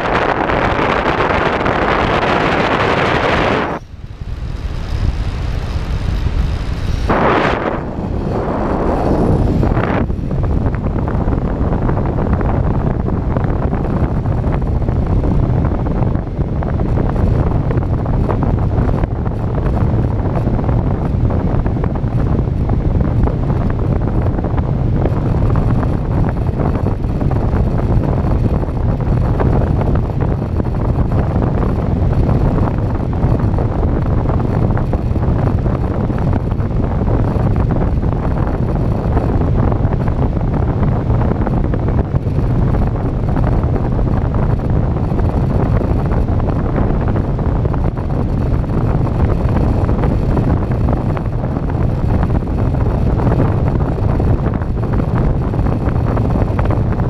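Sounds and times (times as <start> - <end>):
wind rushing across microphone: 0.0 - 57.0.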